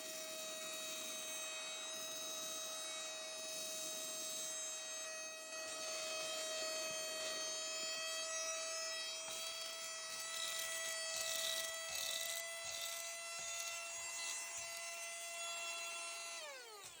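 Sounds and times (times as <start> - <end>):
handheld vacuum motor whine: 0.0 - 17.0.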